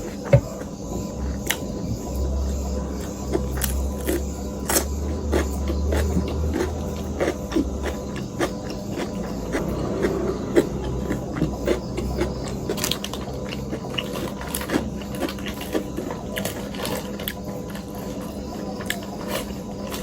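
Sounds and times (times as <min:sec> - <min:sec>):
chewing and slurping noodles: 0:00.0 - 0:20.0
steady low hum: 0:00.0 - 0:20.0.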